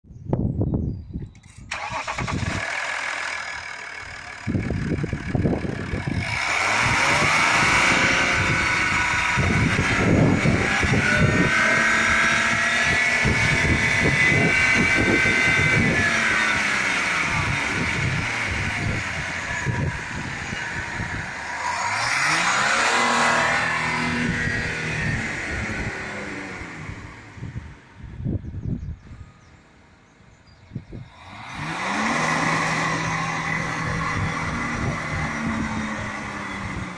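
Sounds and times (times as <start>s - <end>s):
diesel engine starting and running: 1.2s - 36.9s
engine whine: 1.2s - 36.9s.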